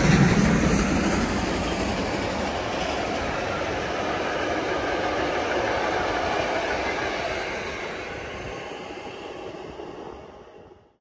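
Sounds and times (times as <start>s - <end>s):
train coaches rolling past: 0.0s - 11.0s.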